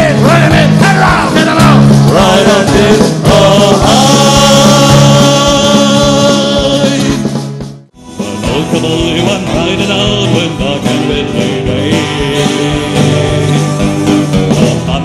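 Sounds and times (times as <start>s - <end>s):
wordless vocals: 0.0s - 7.4s, 8.1s - 15.0s
band holding a long chord: 0.0s - 15.0s.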